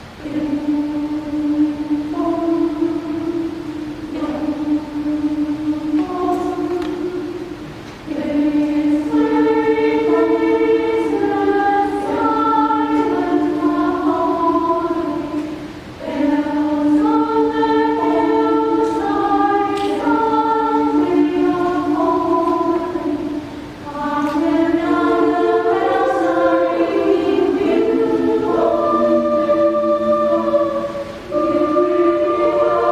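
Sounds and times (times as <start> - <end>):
women's choir singing: 0.0 - 32.9.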